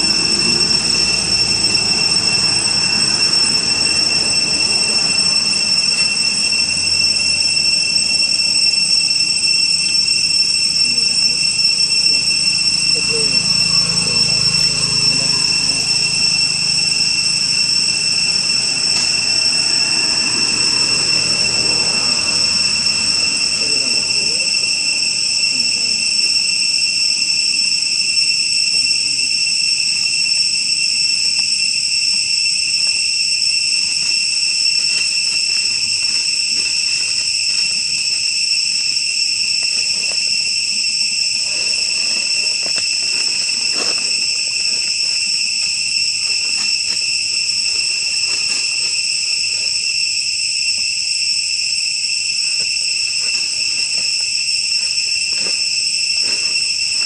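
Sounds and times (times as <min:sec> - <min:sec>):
insects droning high-pitched: 0:00.0 - 0:57.0.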